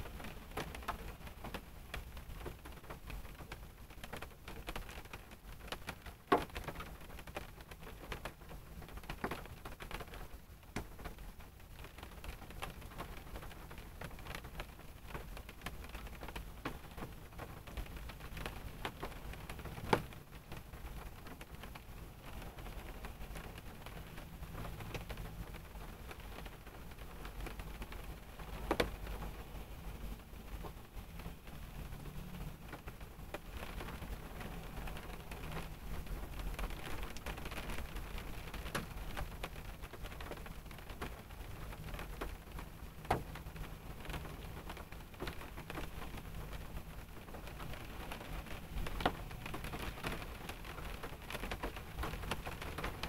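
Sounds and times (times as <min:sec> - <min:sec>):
raindrops tapping on car: 0:00.0 - 0:53.0.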